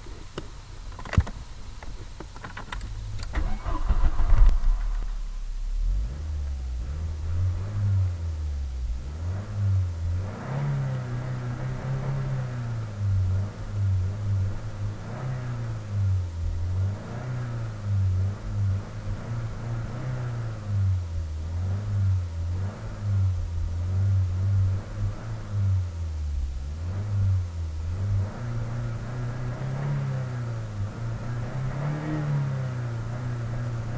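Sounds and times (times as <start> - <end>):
car engine revving: 3.0 - 33.9.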